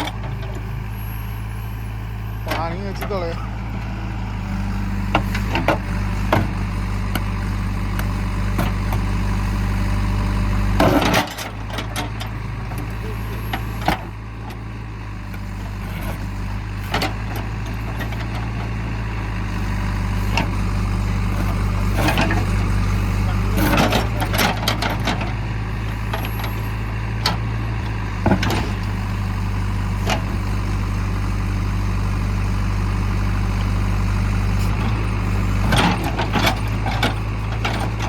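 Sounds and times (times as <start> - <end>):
diesel engines running: 0.0 - 38.0.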